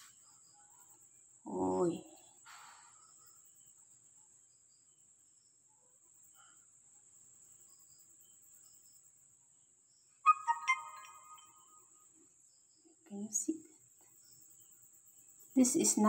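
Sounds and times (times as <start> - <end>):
cricket trill: 0.0 - 16.0.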